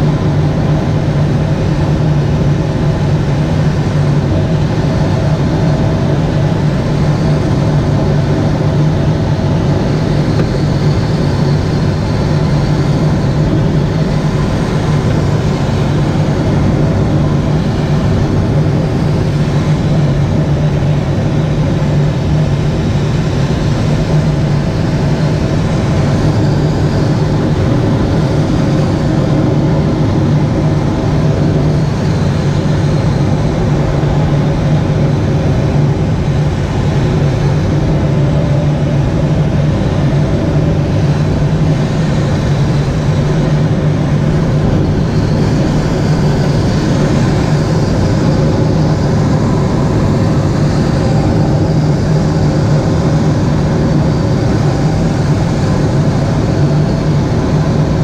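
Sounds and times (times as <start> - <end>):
plane engine drone: 0.0 - 58.0
rushing airflow: 0.0 - 58.0.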